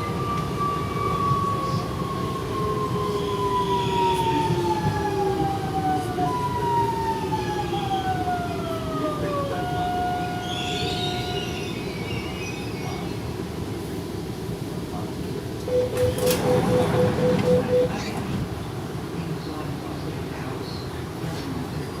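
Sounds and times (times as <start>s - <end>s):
train car rumble: 0.0s - 21.7s.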